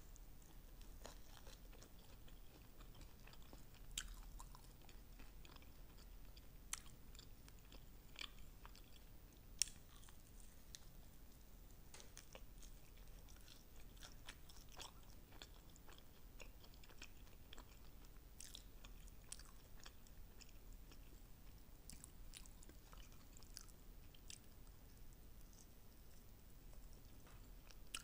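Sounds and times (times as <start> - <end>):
chewing and biting crackles: 0.2 - 10.9, 12.0 - 28.0.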